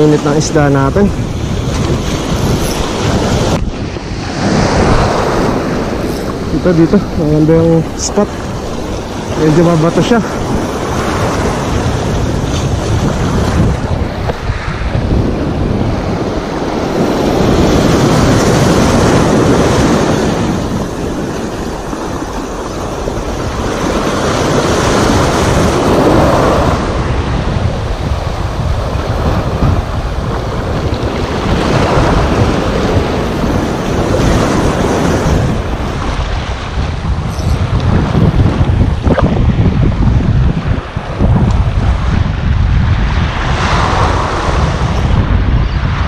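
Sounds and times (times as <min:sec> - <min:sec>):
surf breaking over rocks: 0:00.0 - 0:46.0
wind buffeting microphone: 0:00.0 - 0:46.0.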